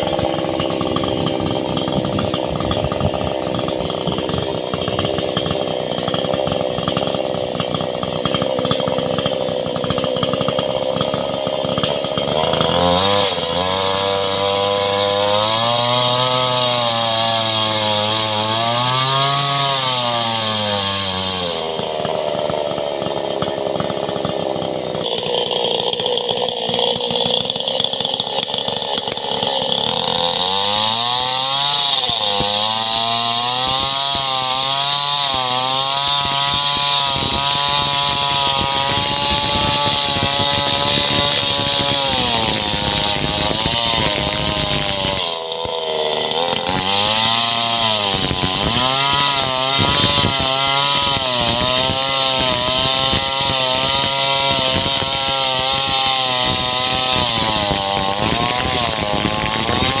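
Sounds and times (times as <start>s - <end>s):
chainsaw cutting a log: 0.0s - 60.0s.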